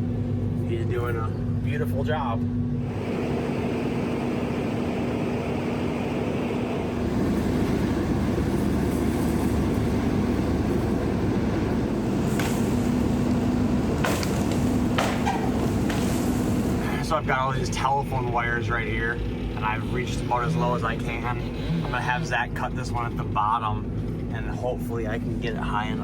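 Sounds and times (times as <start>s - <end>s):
crane engine humming: 0.0s - 26.0s.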